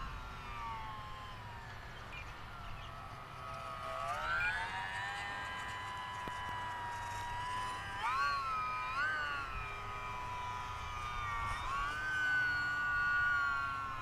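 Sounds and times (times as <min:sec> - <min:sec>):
rc plane motor whine: 0:00.0 - 0:14.0.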